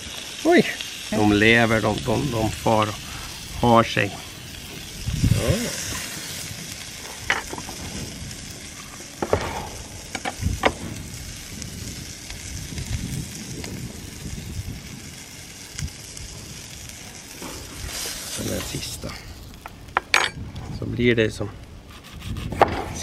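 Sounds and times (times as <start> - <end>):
sausages sizzling in a pan: 0.0 - 20.5.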